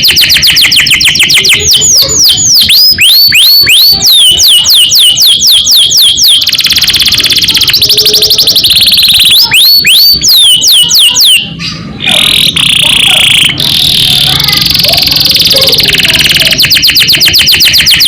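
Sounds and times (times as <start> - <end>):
canary singing: 0.0 - 18.0.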